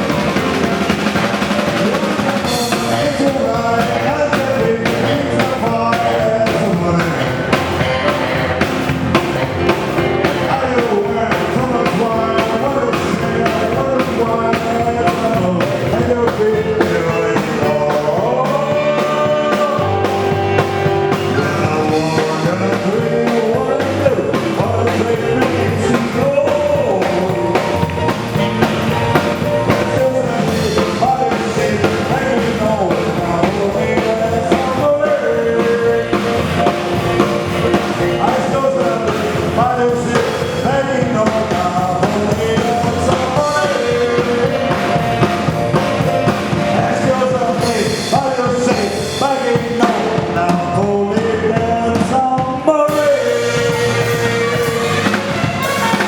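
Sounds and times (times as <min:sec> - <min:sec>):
drum kit: 0:00.0 - 0:56.0
live rock band music: 0:00.0 - 0:56.0
person singing: 0:00.0 - 0:56.0.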